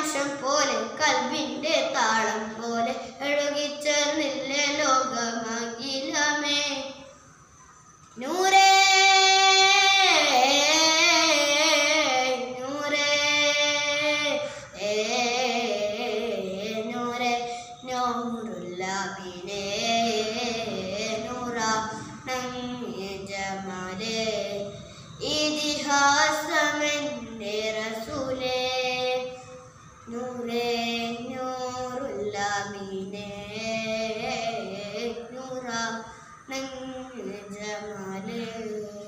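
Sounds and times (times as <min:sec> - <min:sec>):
boy singing devotional song: 0:00.0 - 0:07.2, 0:08.0 - 0:39.0.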